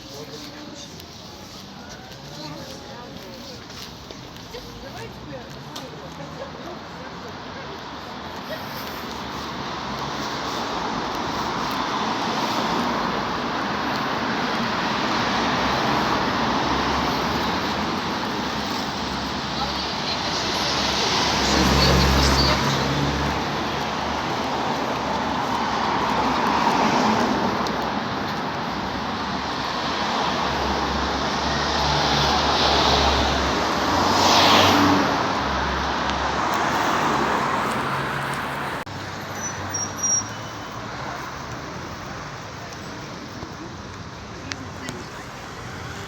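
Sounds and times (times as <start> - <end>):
road traffic noise: 0.0 - 46.0.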